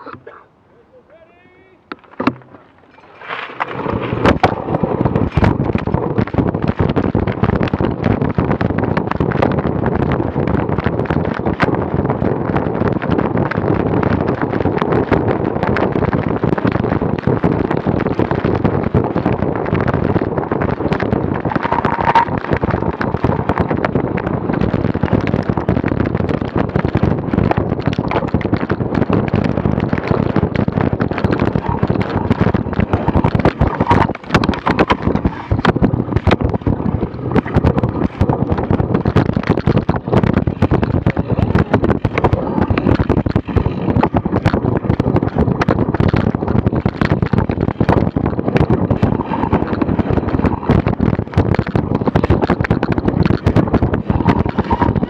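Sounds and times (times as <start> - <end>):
bike rattling on rough ground: 1.9 - 55.0
wind buffeting microphone: 2.2 - 55.0.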